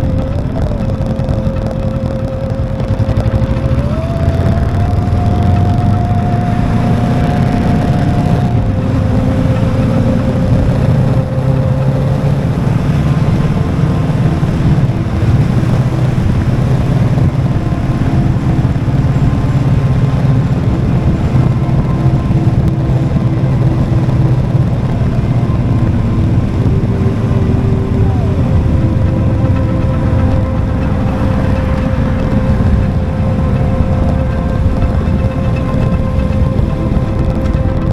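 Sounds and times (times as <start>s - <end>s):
motorcycle engine cruising: 0.0s - 37.9s
wind and road noise: 0.0s - 37.9s.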